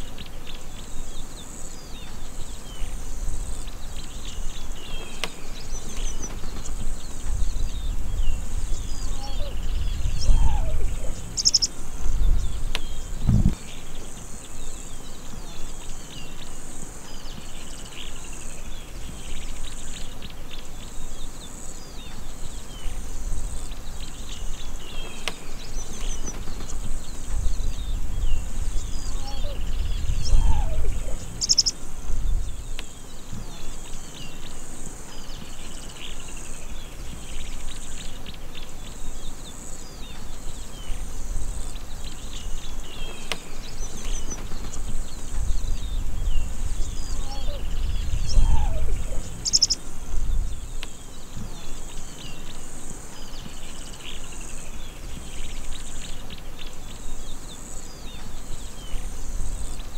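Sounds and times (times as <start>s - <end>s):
bird chirps: 0.0s - 59.9s
pulsing insect chorus: 0.0s - 59.9s.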